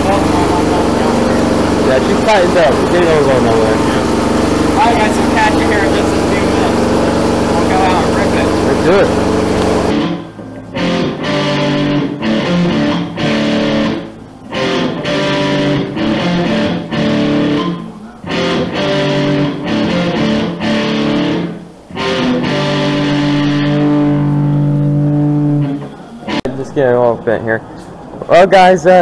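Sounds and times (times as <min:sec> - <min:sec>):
guitar-led music: 0:00.0 - 0:28.3.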